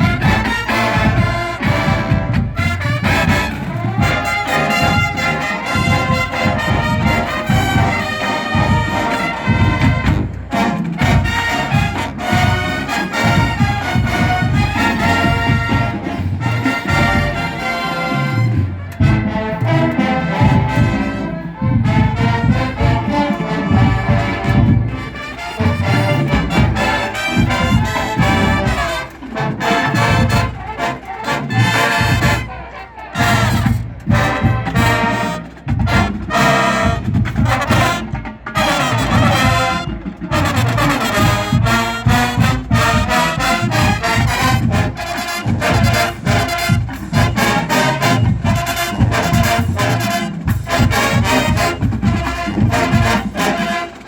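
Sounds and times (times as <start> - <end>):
marching band brass: 0.0 - 54.0
steady drum beat: 0.0 - 54.0.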